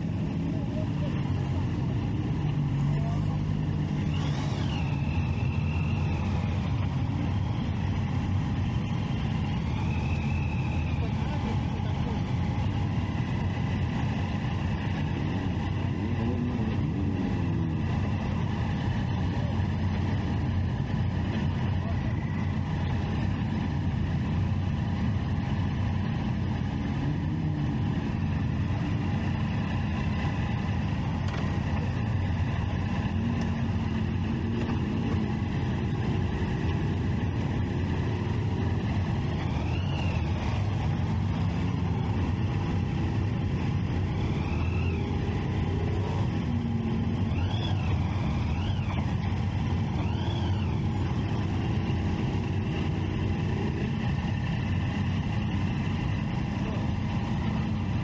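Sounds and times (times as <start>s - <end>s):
motorcycle engines running: 0.0s - 58.0s.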